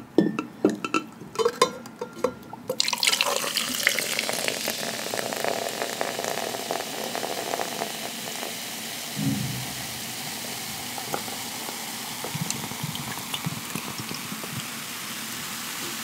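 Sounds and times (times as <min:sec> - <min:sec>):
seltzer water fizzing: 0:02.8 - 0:16.0.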